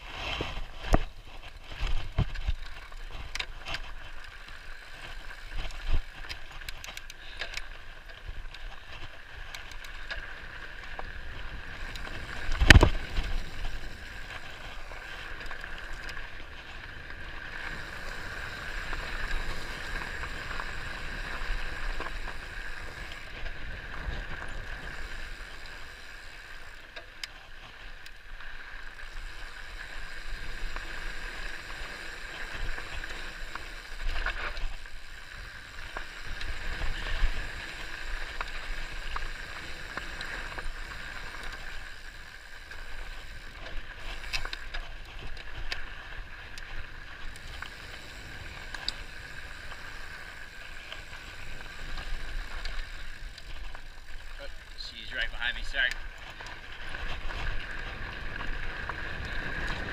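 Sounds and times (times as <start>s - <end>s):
bike tyres rattling over stones: 0.0s - 59.9s
steady rushing hiss: 0.0s - 59.9s.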